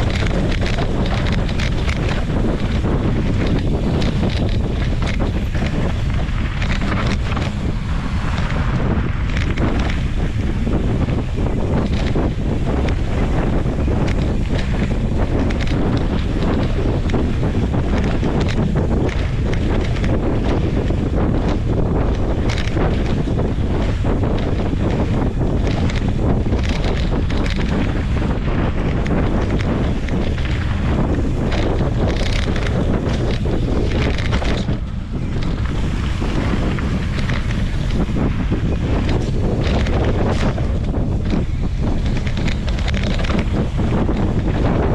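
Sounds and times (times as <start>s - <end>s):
bike rattling and clicking: 0.0s - 44.9s
bike tyres rumbling on dirt: 0.0s - 44.9s
wind buffeting microphone: 0.0s - 44.9s.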